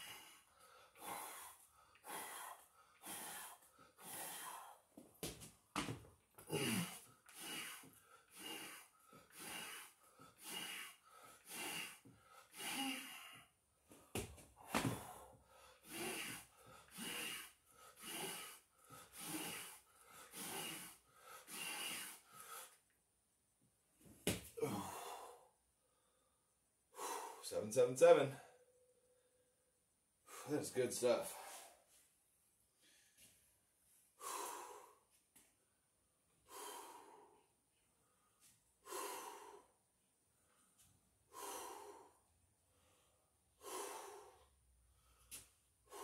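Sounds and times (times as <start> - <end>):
man breathing hard: 0.0 - 5.1, 5.8 - 22.8, 24.5 - 27.5, 31.2 - 32.1, 34.2 - 35.6, 36.3 - 46.0.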